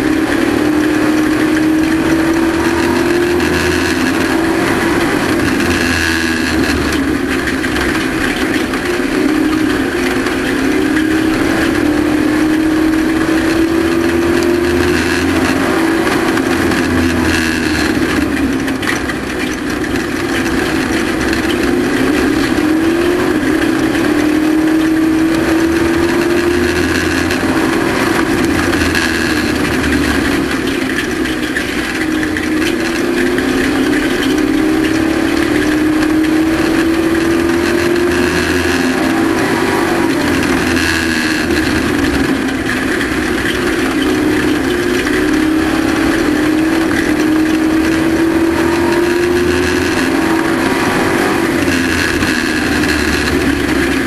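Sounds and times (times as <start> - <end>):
truck engine revving under load: 0.0 - 54.0.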